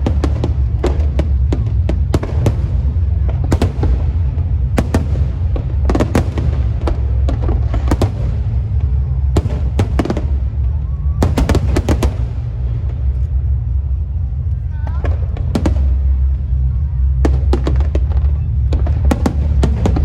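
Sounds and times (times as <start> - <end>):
fireworks and firecrackers banging: 0.0 - 20.0
steady low rumble: 0.0 - 20.0.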